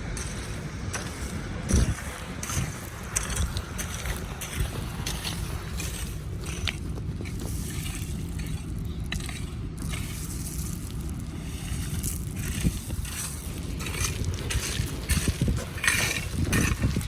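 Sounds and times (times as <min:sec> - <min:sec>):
rock scraping and crunching: 0:00.0 - 0:17.0.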